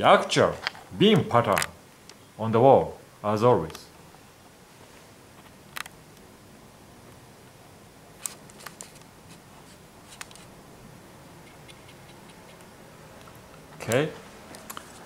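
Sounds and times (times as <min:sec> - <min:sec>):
low room hiss: 0:00.0 - 0:15.0.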